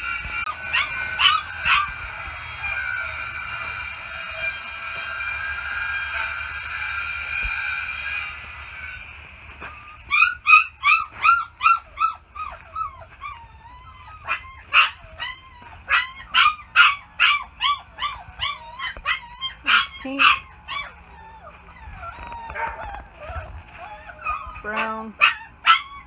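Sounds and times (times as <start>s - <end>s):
high whine: 0.0s - 26.0s
puppies whimpering and yipping: 0.0s - 26.0s.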